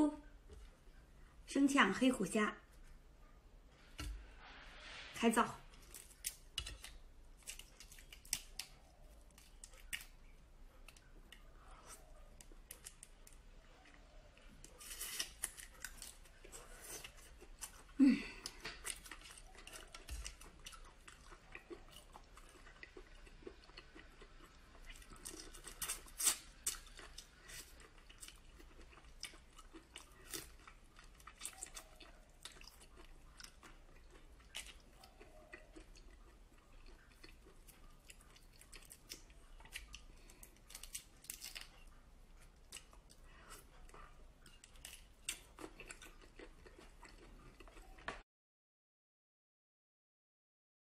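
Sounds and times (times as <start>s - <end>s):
close-up chewing: 5.7s - 48.2s.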